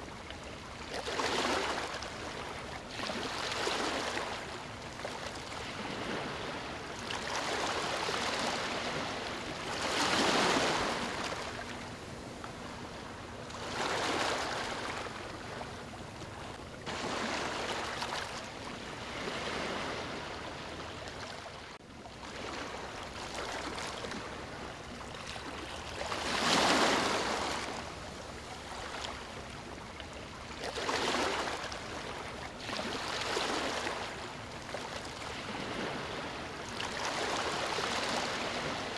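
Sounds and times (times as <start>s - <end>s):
ocean waves breaking: 1.0s - 21.7s, 22.3s - 29.8s, 30.5s - 38.9s.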